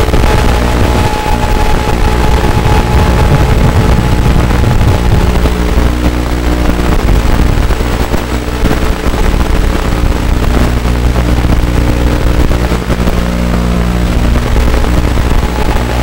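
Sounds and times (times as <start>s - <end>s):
drone motors humming: 0.0s - 16.0s.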